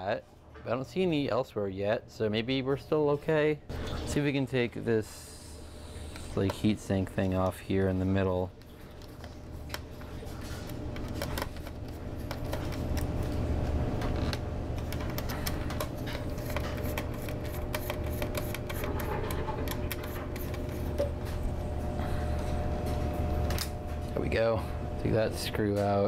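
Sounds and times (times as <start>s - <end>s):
steady low hum: 0.2s - 26.0s.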